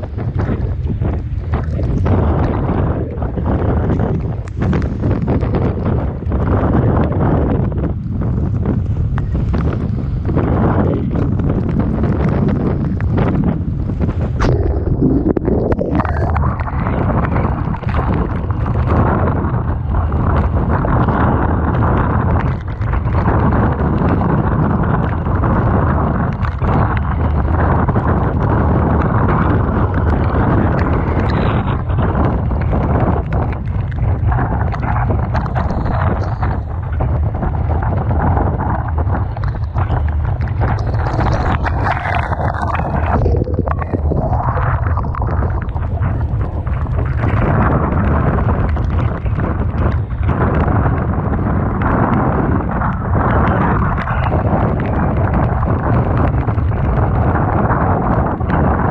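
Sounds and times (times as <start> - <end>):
rough sea and breaking waves: 0.0 - 58.9
wind buffeting microphone: 0.0 - 58.9.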